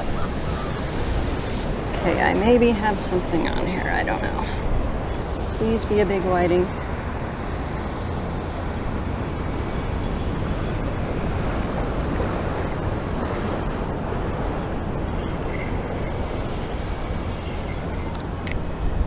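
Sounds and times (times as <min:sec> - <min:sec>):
ocean surf washing: 0:00.0 - 0:19.0
wind on microphone: 0:00.0 - 0:19.0.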